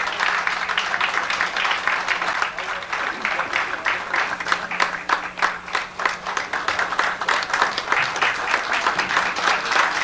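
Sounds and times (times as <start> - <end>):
audience applauding: 0.0 - 10.0
sound system hum: 0.0 - 10.0.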